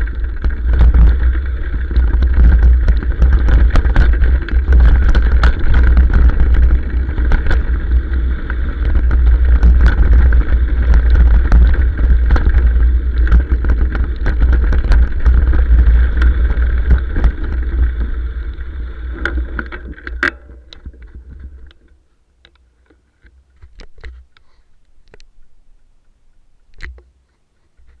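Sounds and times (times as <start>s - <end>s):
noisy hum: 0.0s - 28.0s.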